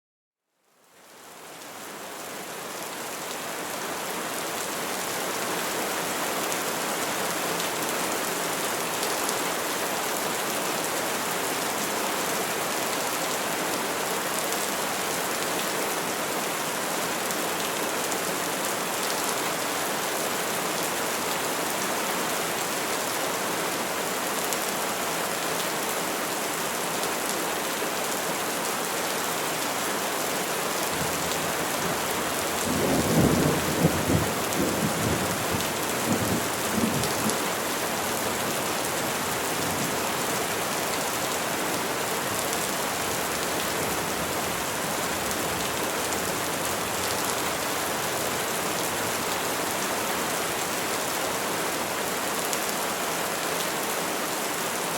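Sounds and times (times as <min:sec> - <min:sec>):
rain falling on trees: 0:00.7 - 0:54.9.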